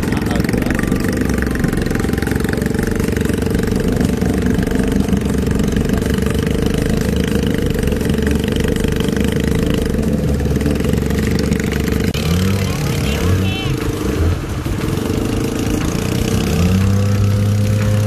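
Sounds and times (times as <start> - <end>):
scooter engine running steadily: 0.0 - 18.0.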